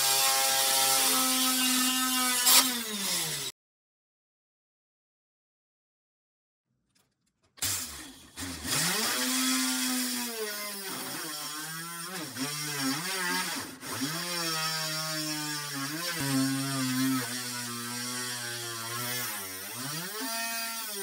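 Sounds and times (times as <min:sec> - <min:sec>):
drill bit cutting plywood: 0:00.0 - 0:03.5, 0:07.6 - 0:21.0.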